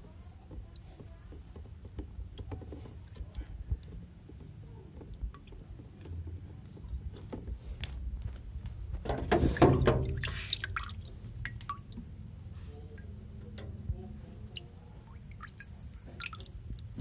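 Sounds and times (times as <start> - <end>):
water dripping and sloshing: 0.0 - 17.0.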